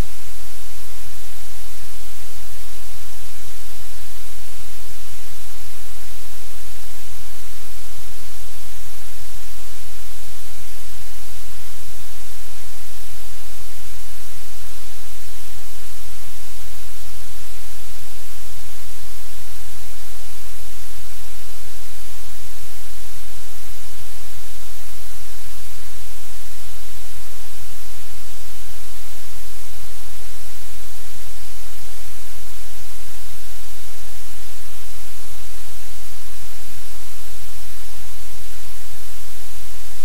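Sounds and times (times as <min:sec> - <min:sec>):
static hiss: 0:00.0 - 0:40.0.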